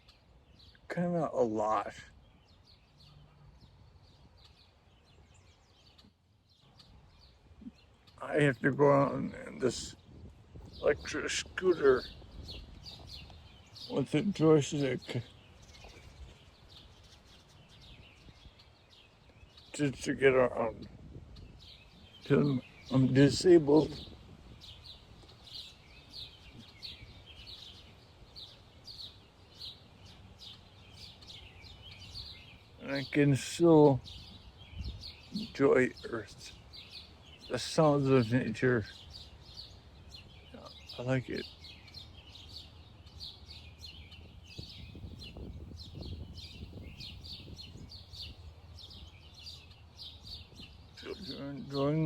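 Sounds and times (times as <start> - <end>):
bird chirping: 0.0 - 52.0
low wind rumble: 6.5 - 51.8.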